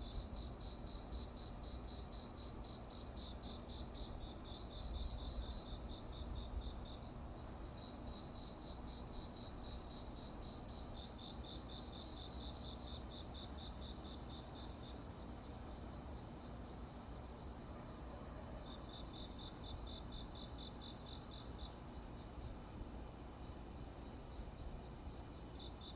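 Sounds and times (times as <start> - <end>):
crickets chirping: 0.0 - 25.9
faint city hum: 0.0 - 25.9.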